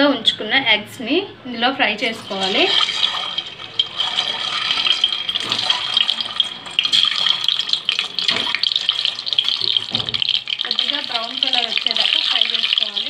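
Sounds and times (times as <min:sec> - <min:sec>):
hot oil sizzling and crackling: 0:02.1 - 0:13.0.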